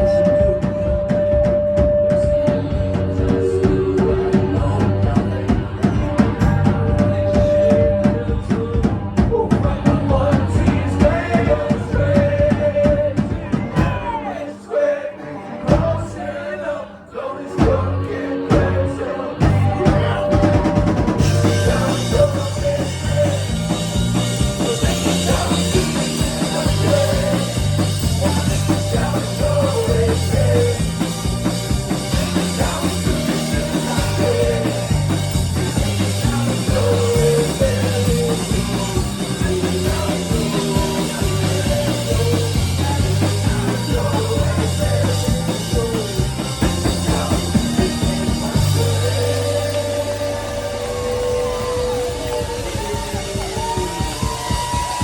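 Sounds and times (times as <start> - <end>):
rock drum beat: 0.0 - 14.4, 15.7 - 16.2, 17.6 - 55.0
repeating low bass: 2.5 - 14.1, 17.6 - 55.0.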